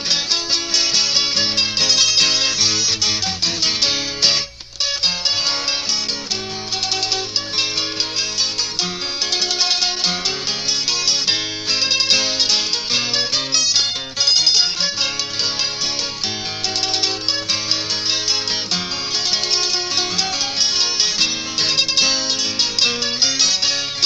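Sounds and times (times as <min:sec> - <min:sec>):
mandolin melody: 0:00.0 - 0:24.0
plucked guitar accompaniment: 0:00.0 - 0:24.0.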